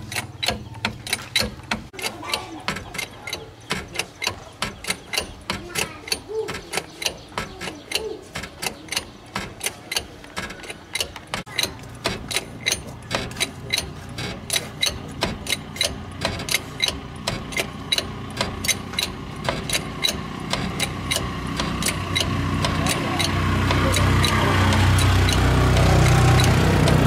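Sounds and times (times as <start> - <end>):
bottle jack pumping clicks: 0.0 - 27.0.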